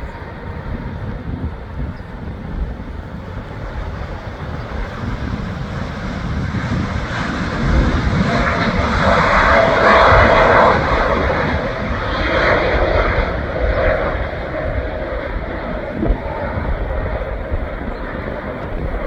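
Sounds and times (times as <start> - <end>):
aircraft engines: 0.0 - 19.0
wind buffeting microphone: 0.0 - 19.0.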